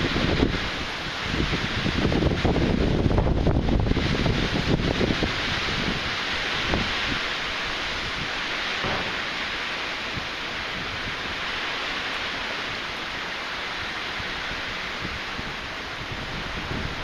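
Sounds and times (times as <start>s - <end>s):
storm wind and water hiss: 0.0s - 17.0s
wind gusts buffeting microphone: 0.0s - 17.0s.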